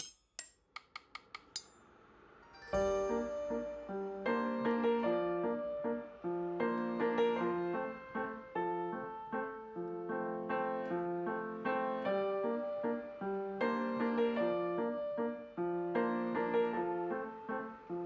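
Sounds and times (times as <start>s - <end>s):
piano music: 2.4s - 18.0s.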